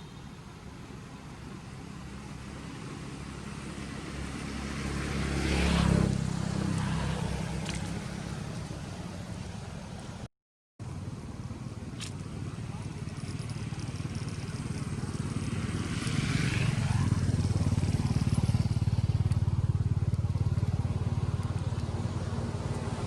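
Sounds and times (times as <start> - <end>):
vehicle passing by: 1.8 - 10.3, 12.6 - 23.0.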